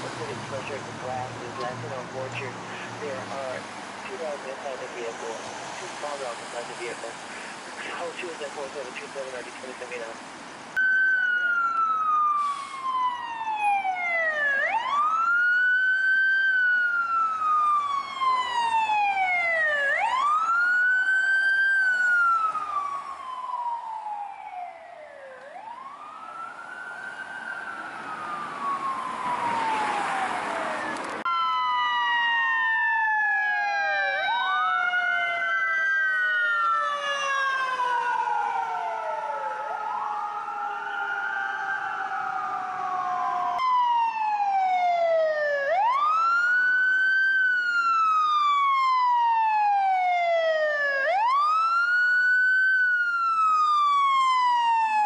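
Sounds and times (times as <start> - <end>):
ambulance siren wailing: 0.0 - 10.2, 10.8 - 55.0
second siren wailing: 10.8 - 55.0.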